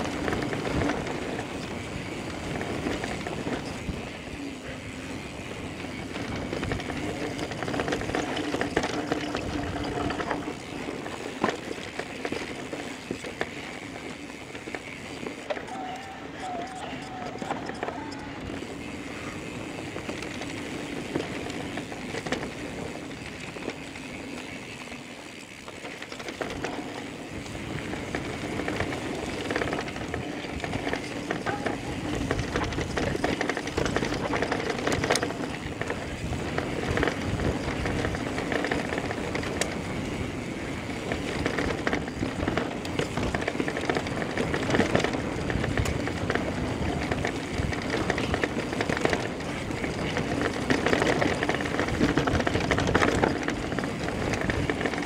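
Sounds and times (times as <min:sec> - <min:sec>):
bike rattling and knocking: 0:00.0 - 0:55.0
bike tyres running over dirt: 0:00.0 - 0:55.0.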